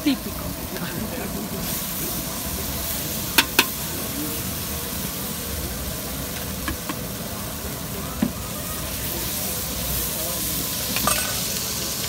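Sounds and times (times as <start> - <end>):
food frying on griddle: 0.0 - 12.0.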